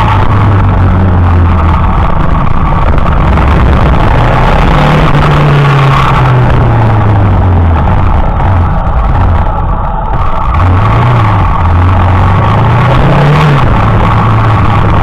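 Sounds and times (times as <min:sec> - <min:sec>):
motorcycle engine running: 0:00.0 - 0:15.0
rushing noise: 0:00.0 - 0:15.0.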